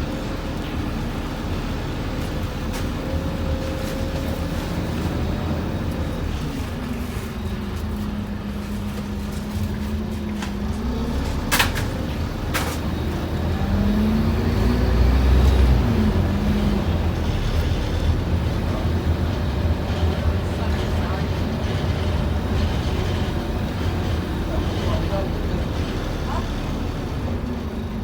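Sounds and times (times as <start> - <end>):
bus diesel engine from on board: 0.0 - 28.0.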